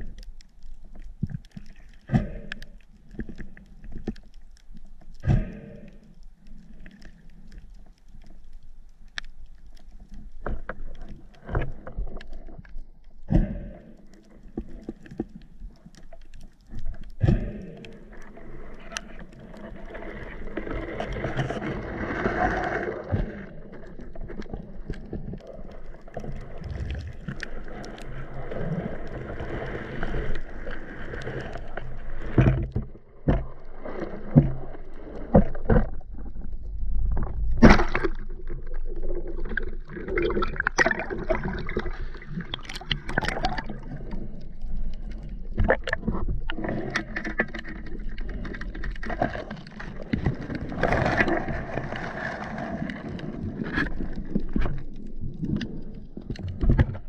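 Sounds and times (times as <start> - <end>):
water gurgling underwater: 9.5 - 57.0.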